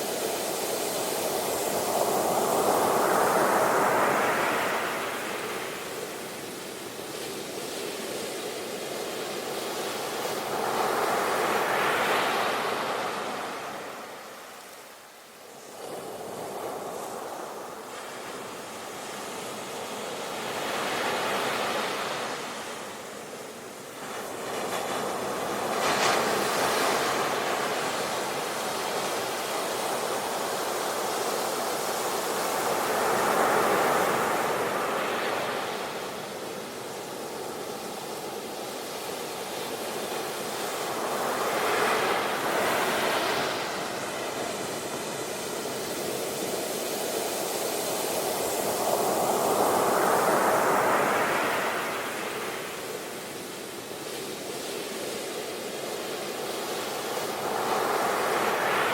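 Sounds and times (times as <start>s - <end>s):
sea waves breaking on beach: 0.0s - 14.8s, 15.6s - 58.9s.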